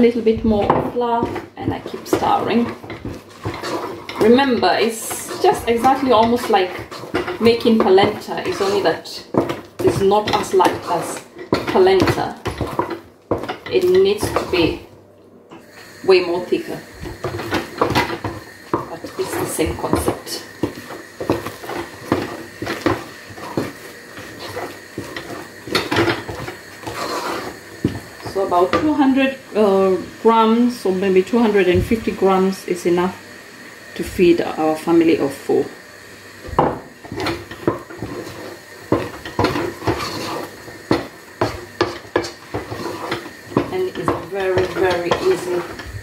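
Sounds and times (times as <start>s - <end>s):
wooden spoon stirring dough: 0.0s - 14.9s, 15.6s - 32.4s, 36.4s - 46.0s.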